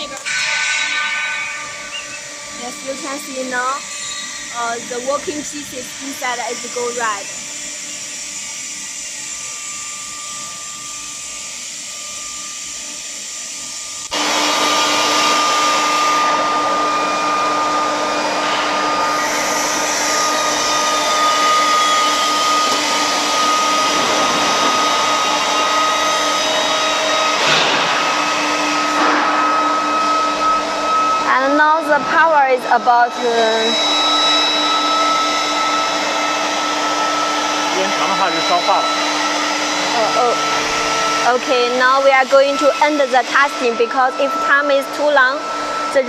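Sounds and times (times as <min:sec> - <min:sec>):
high whine: 0:00.0 - 0:46.0
induction furnace hiss: 0:00.0 - 0:46.0.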